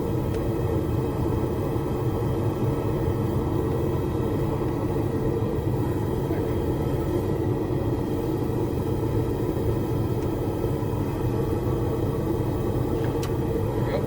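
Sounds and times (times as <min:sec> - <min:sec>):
gas forge burners rumbling: 0:00.0 - 0:14.0.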